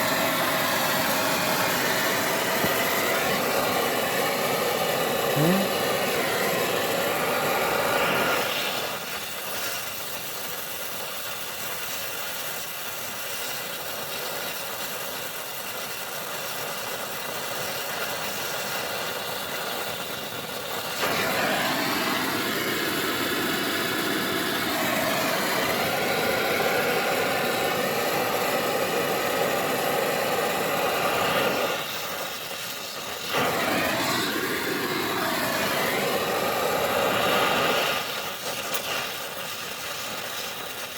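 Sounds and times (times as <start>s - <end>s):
torch flame hissing: 0.0s - 40.9s.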